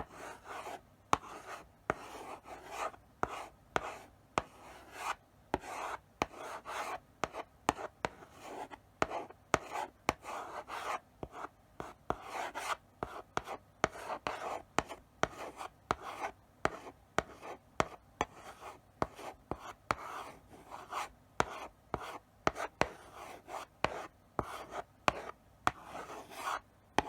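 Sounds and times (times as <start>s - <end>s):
chalk scratching on blackboard: 0.0s - 11.5s, 12.1s - 27.0s
chalk tapping on board: 0.2s - 20.2s, 20.8s - 27.0s.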